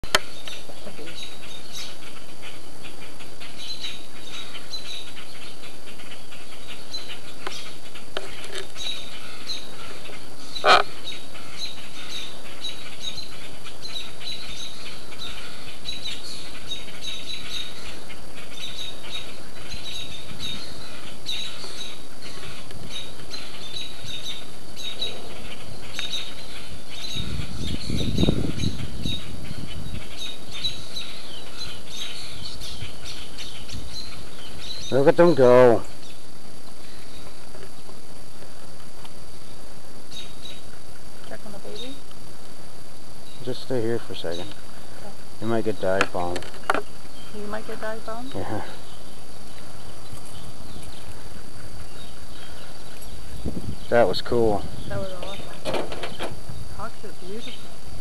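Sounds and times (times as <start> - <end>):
small birds chirping alarm calls: 0.2 - 37.9, 43.2 - 58.0.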